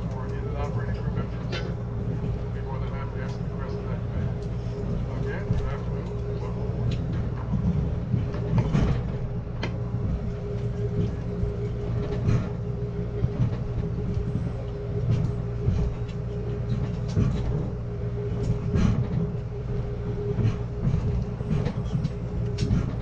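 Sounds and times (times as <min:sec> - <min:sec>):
train rumbling from inside coach: 0:00.0 - 0:23.0.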